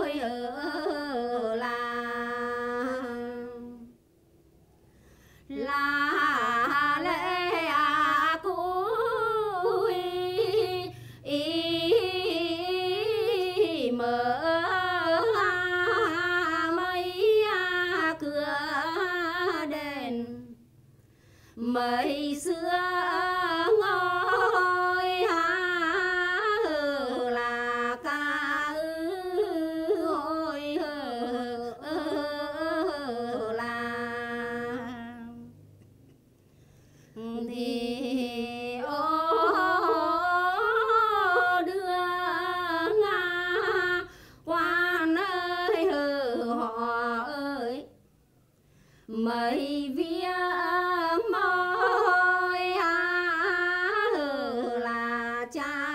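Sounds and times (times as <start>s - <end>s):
woman singing unaccompanied: 0.0s - 4.0s, 5.5s - 20.7s, 21.6s - 35.6s, 37.2s - 48.0s, 49.0s - 55.9s.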